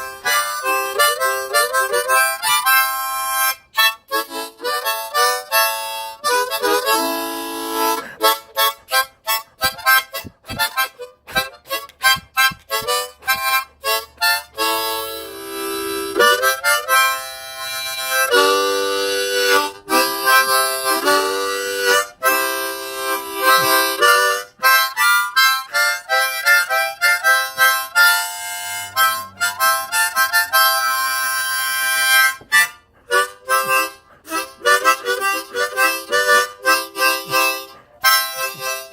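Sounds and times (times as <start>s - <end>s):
harmonica tune: 0.0s - 38.9s.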